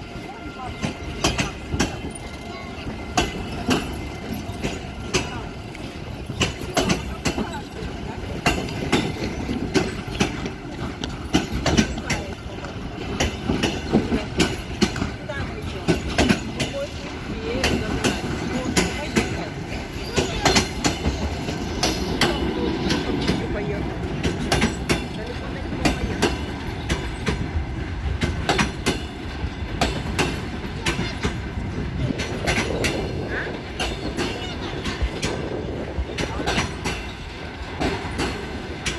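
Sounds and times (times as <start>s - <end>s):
train rumble: 0.0s - 38.9s
train wheels clacking over rail joints: 0.1s - 38.9s.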